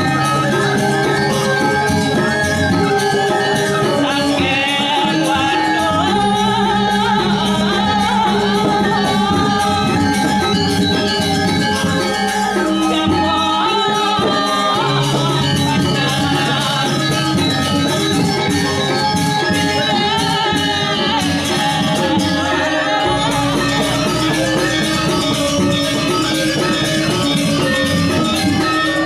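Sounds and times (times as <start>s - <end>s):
metallophones ringing melody: 0.0s - 29.0s.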